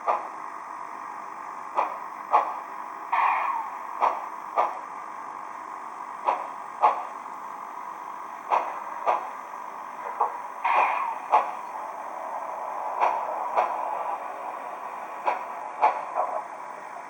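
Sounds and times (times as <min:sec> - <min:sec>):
model locomotive steam hiss: 0:00.0 - 0:17.0.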